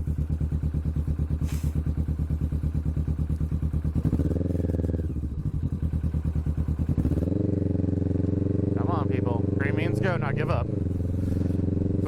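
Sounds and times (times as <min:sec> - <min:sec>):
motorcycle engine pulsing: 0:00.0 - 0:12.0.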